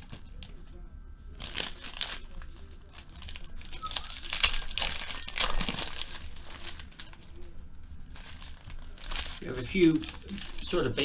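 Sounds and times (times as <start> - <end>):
foil wrapper crinkling and tearing: 1.3 - 11.0.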